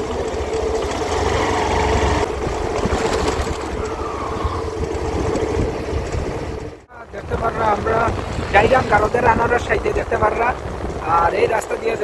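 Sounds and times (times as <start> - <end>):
motorcycle engine running: 0.0 - 12.0
road and air noise: 0.0 - 12.0.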